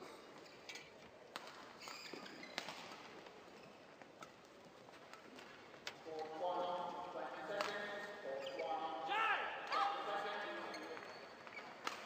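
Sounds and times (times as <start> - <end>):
hubbub of sports hall: 0.0 - 12.0.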